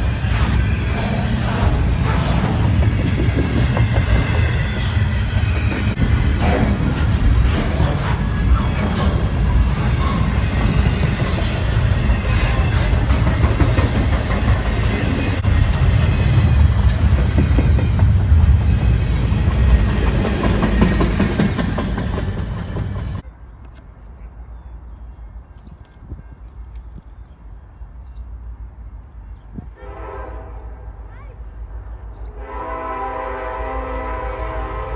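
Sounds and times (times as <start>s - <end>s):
freight train cars rolling on rails: 0.0s - 34.9s.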